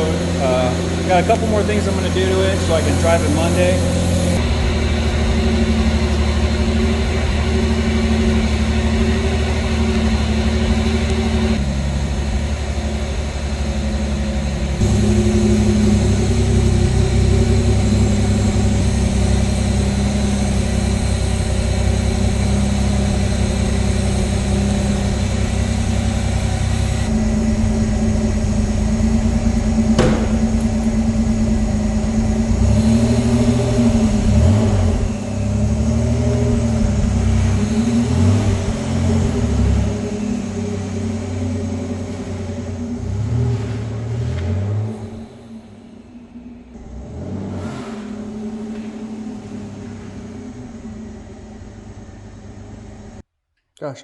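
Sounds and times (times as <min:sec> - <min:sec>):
car engine idling: 0:00.0 - 0:53.3.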